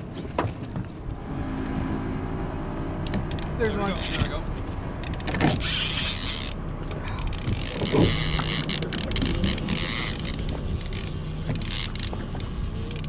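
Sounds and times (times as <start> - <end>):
boat motor running: 0.3 - 13.0.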